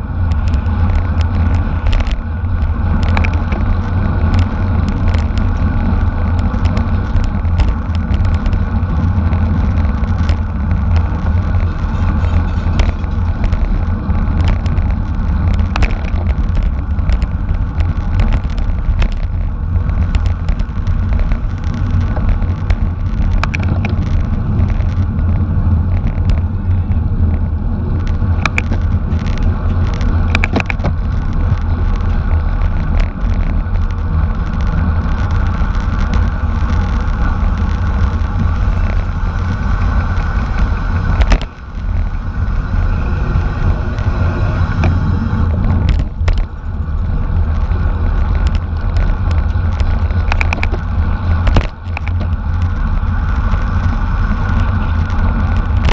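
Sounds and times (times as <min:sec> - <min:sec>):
wind and road rumble: 0:00.0 - 0:55.9.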